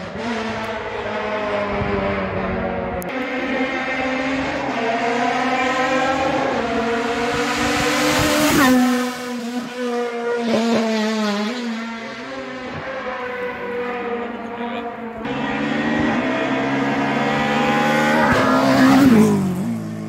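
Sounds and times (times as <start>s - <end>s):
race car engine passing by: 0.0s - 20.0s.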